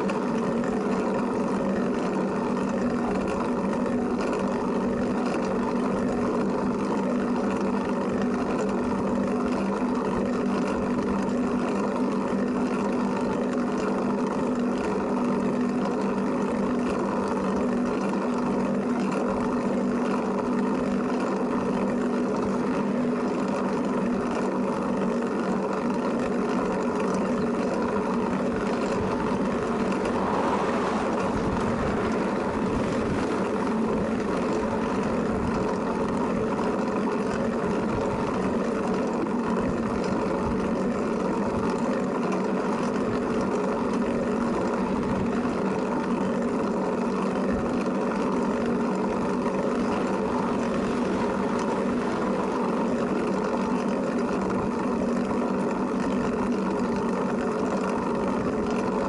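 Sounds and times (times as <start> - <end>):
vehicle running hum: 0.0 - 59.0.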